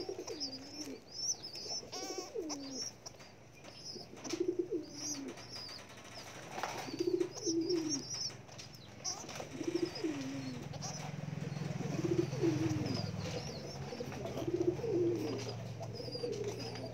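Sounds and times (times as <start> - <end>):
pigeons cooing: 0.0 - 16.9.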